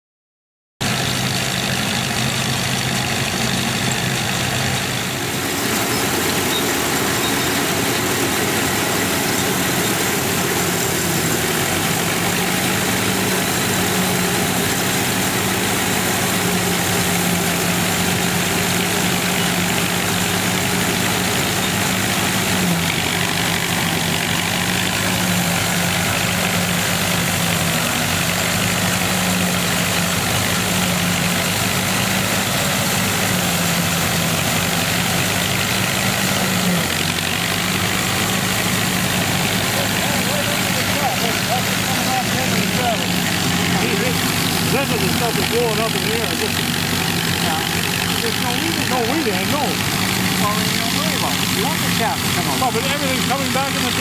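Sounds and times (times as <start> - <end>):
combine engine running under load: 0.8 - 54.0
threshing machinery turning: 0.8 - 54.0
tractor engine running: 0.8 - 54.0.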